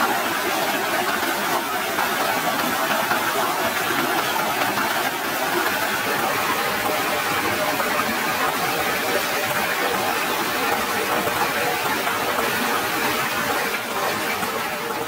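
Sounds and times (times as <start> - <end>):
stream and small waterfall rushing: 0.0 - 15.0.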